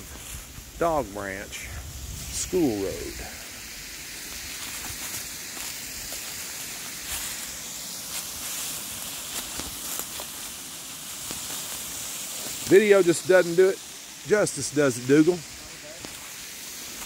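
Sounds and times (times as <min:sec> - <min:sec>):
footsteps in dry leaves: 0:00.0 - 0:17.0
waterfall rushing: 0:02.3 - 0:17.0.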